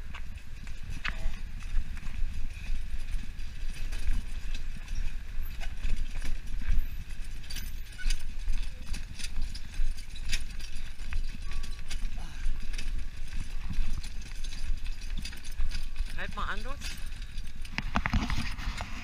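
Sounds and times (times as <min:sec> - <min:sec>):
wheels rattling on stones: 0:00.0 - 0:19.0
wheels rolling over cobblestones: 0:00.0 - 0:19.0.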